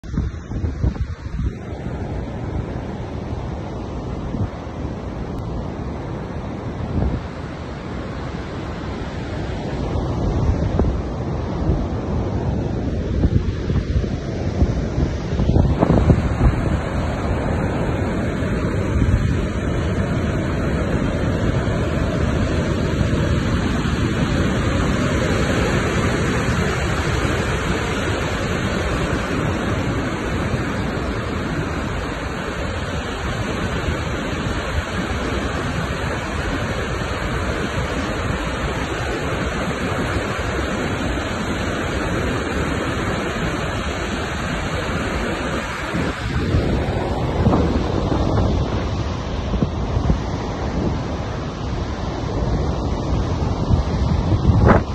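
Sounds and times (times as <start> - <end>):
floodwater rushing through rapids: 0.0 - 54.9.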